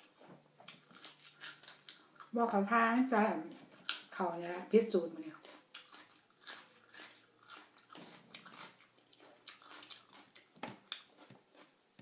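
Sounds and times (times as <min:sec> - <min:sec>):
faint chewing: 0:00.0 - 0:04.5, 0:05.2 - 0:11.8.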